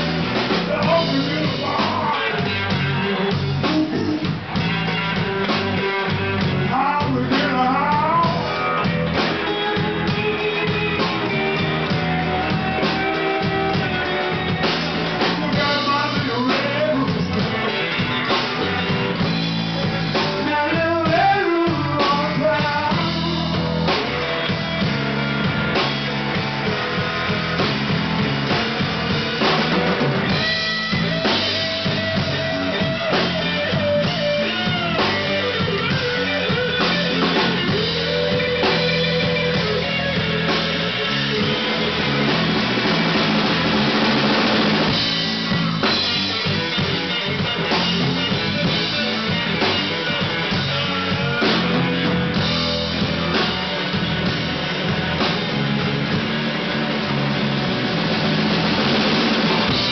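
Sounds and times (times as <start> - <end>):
drum kit playing: 0.0 - 59.9.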